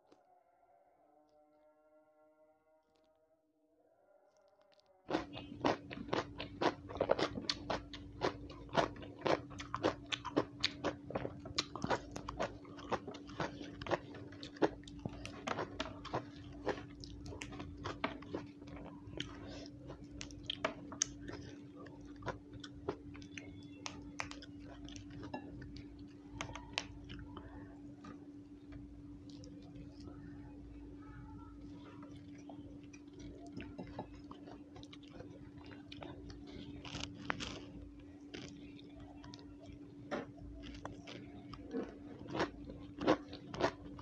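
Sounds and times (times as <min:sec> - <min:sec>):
steady low hum: 0:00.0 - 0:44.0
crunching and chewing raw beans: 0:04.3 - 0:30.8, 0:31.6 - 0:44.0.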